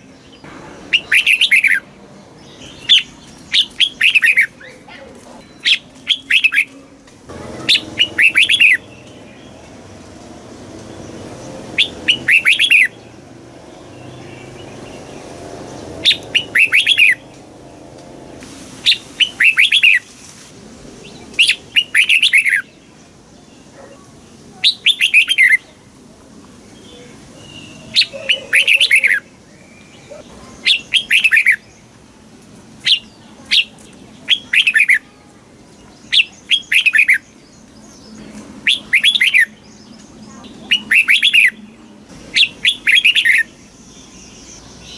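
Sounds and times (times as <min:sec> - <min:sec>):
bulbul singing warbling phrases: 0:00.0 - 0:10.0, 0:10.9 - 0:17.4, 0:18.8 - 0:20.1, 0:21.0 - 0:25.9, 0:26.8 - 0:31.8, 0:32.8 - 0:44.9.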